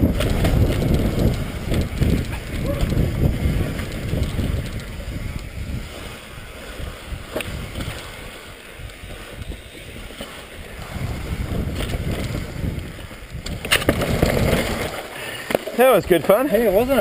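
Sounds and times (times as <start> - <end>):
tyre and frame rattle: 0.0 - 17.0
wind buffeting microphone: 0.0 - 17.0.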